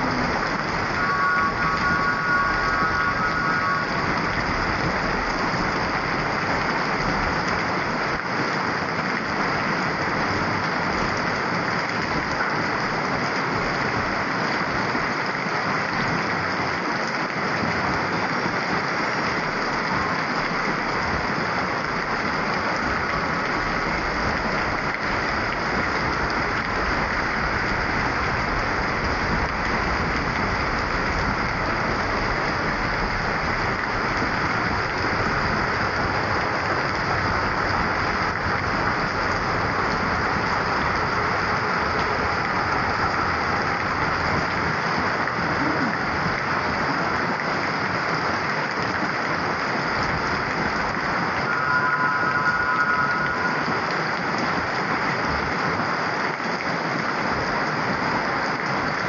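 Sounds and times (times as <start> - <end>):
heavy rain pouring on street: 0.0 - 59.0.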